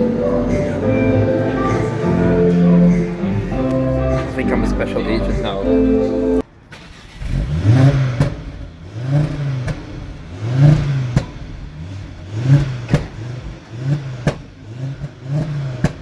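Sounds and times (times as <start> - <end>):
car engine revving: 0.0 - 16.0
exhaust crack: 0.0 - 16.0.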